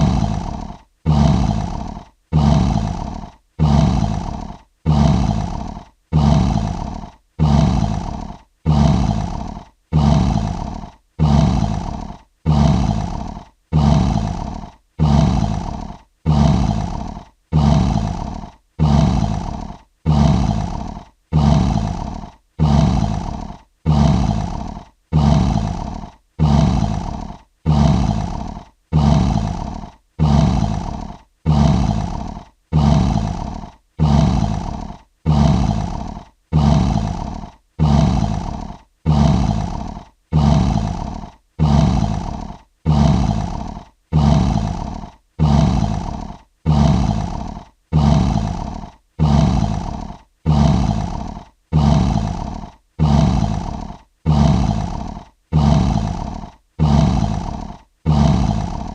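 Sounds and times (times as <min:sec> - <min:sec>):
lion roar: 0:00.0 - 0:58.9.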